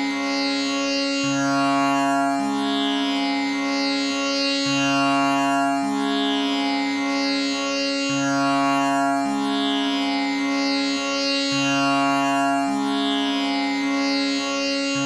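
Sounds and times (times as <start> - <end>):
tanpura drone: 0.0 - 15.0.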